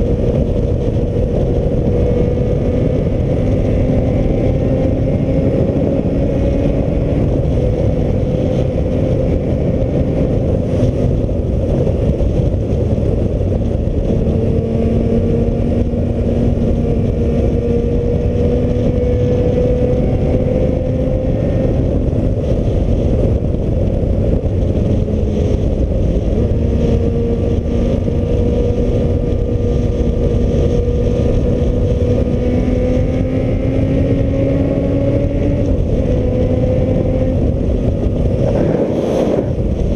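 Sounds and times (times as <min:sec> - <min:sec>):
motorcycle engine humming: 0:00.0 - 0:39.9
wind rushing over microphone: 0:00.0 - 0:39.9.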